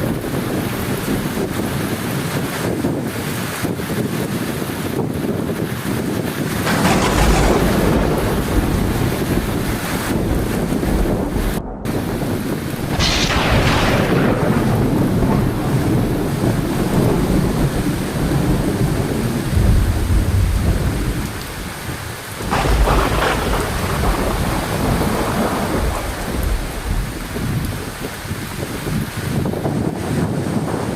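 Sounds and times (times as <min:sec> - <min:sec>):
heavy rain falling: 0:00.0 - 0:30.9
rolling thunder: 0:00.0 - 0:30.9
sharp thunderclap: 0:05.5 - 0:30.9.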